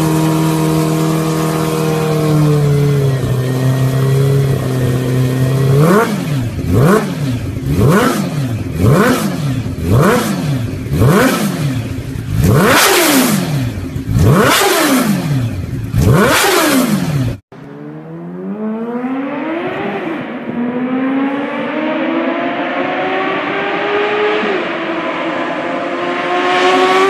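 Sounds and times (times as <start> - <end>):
motorbike engine revving: 0.0 - 27.0.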